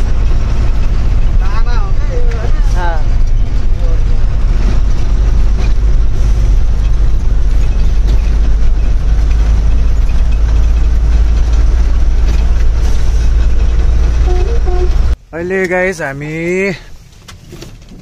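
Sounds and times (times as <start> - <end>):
truck diesel engine drone: 0.0 - 15.3.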